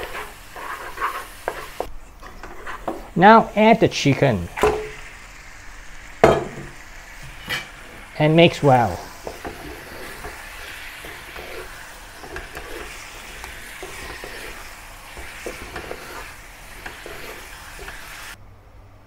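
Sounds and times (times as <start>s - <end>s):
spatulas scraping and knocking pan: 0.0s - 5.1s, 6.2s - 18.4s
chicken sizzling in a wok: 0.0s - 18.4s.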